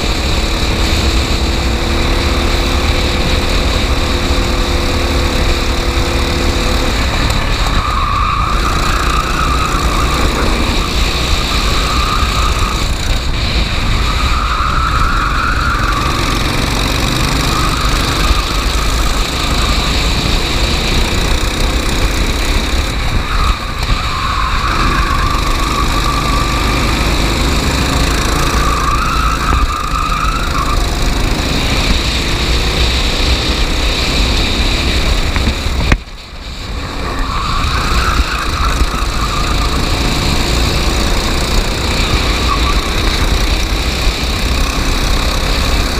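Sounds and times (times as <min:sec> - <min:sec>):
racing kart engine: 0:00.0 - 0:45.9
steady rush of noise: 0:00.0 - 0:45.9.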